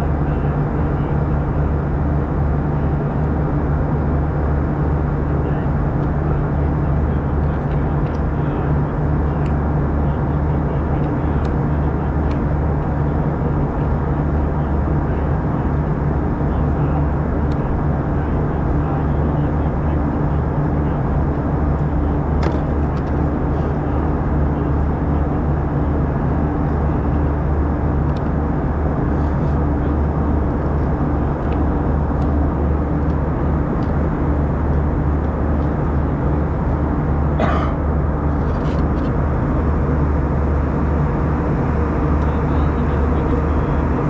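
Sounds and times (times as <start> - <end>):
airplane cabin drone: 0.0 - 44.0.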